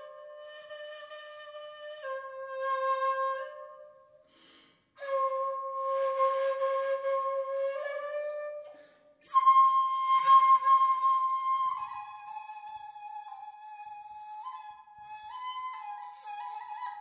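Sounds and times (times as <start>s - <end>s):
bamboo flute held notes: 0.0s - 4.1s, 5.0s - 17.0s.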